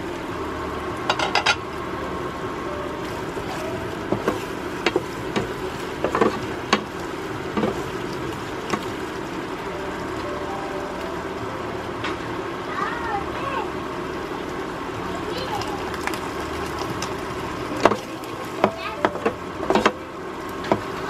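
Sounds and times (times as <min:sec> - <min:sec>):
sauce simmering with hiss: 0:00.0 - 0:21.0.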